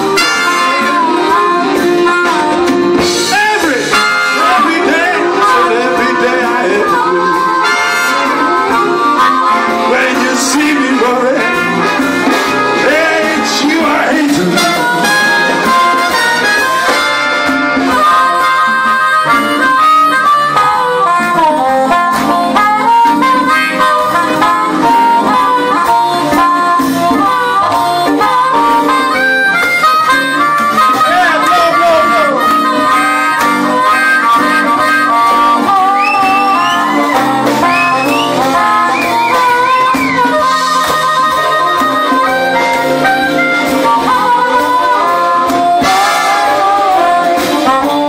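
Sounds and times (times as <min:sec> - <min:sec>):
big band playing blues: 0:00.0 - 0:48.0.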